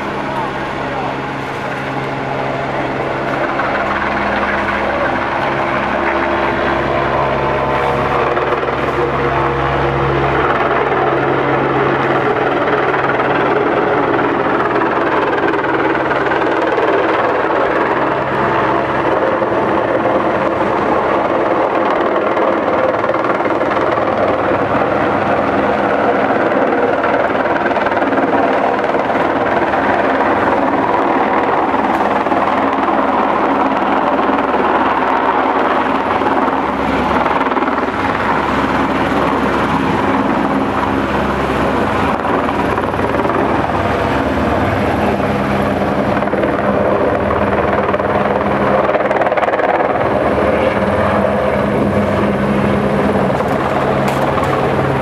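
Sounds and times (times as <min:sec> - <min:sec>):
helicopter rotor and engine: 0:00.0 - 0:55.0.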